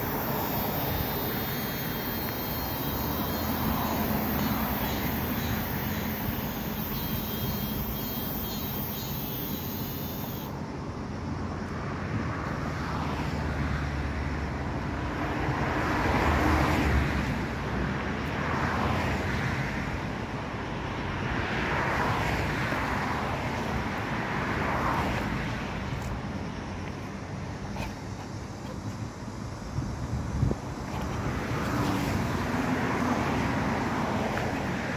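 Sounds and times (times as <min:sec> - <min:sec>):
cars passing: 0:00.0 - 0:34.9.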